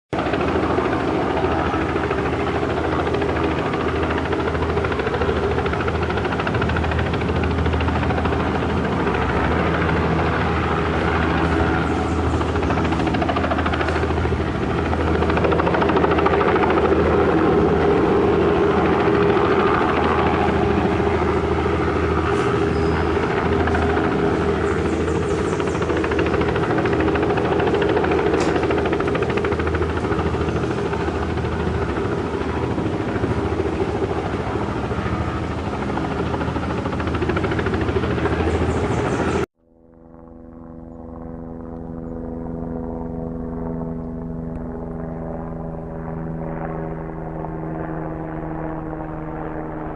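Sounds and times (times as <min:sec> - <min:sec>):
helicopter rotor and engine drone: 0:00.1 - 0:49.9.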